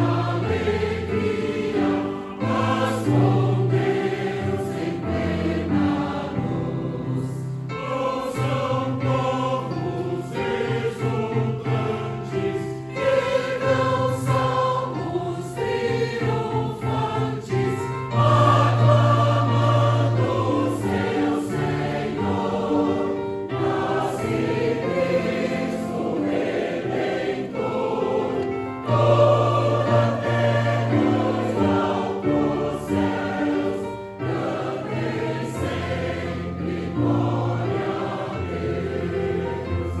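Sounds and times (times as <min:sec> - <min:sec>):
choir singing carols: 0:00.0 - 0:40.0.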